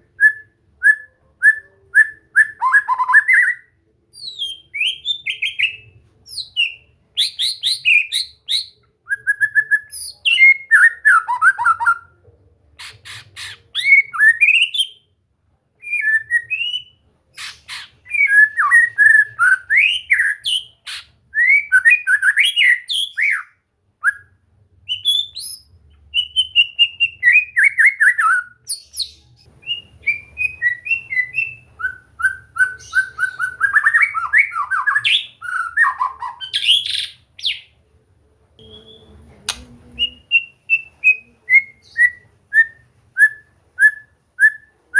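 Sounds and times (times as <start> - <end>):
bird whistled song: 0.0 - 12.1, 12.8 - 15.1, 15.8 - 37.7, 38.6 - 44.7.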